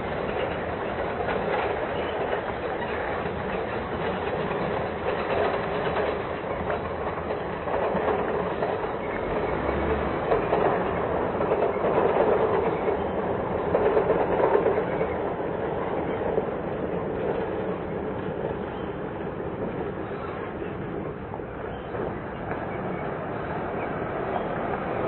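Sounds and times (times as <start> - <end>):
passing vehicles rolling: 0.0 - 25.0.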